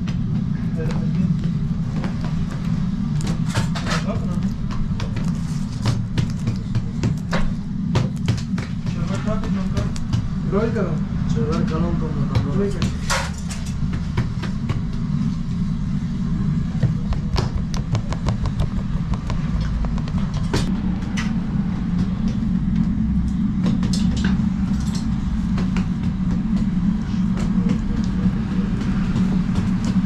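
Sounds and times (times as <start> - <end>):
gas burner rumble: 0.0 - 30.0.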